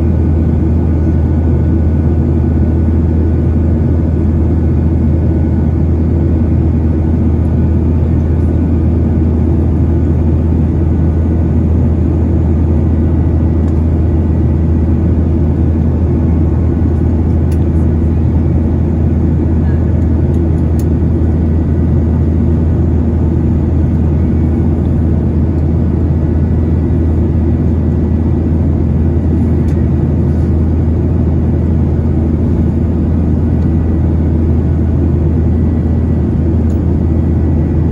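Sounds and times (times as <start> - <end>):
airplane cabin engine rumble: 0.0 - 37.9.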